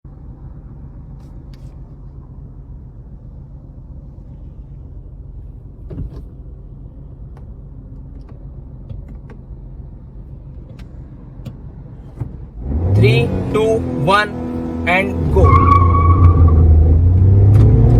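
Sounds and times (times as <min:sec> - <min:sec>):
car engine idling: 0:00.1 - 0:16.6.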